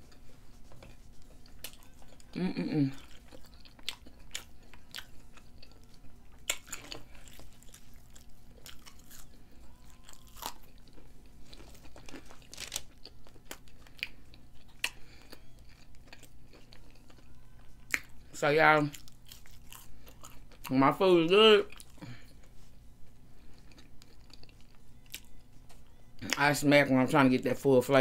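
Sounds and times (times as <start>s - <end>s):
crunchy chewing: 0.0s - 18.2s, 18.8s - 20.8s, 21.6s - 26.4s.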